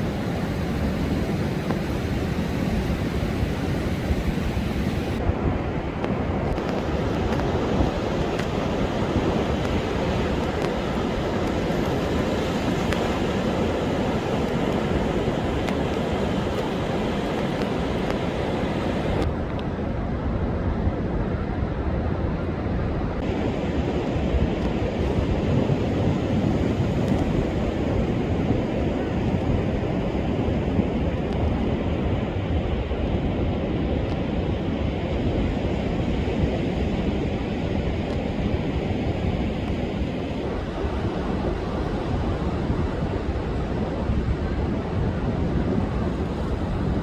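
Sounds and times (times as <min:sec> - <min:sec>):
surf breaking on a beach: 0:00.0 - 0:47.0.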